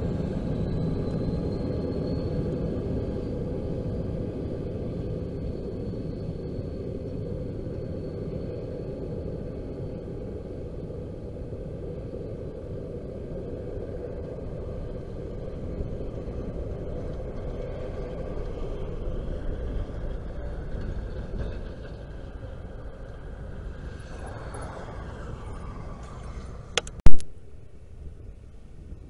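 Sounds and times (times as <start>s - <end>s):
passenger train rumbling: 0.0s - 29.0s.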